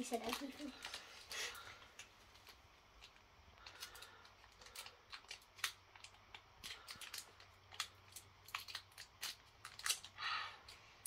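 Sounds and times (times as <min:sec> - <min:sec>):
foil wrapper crinkling: 0:00.0 - 0:10.2.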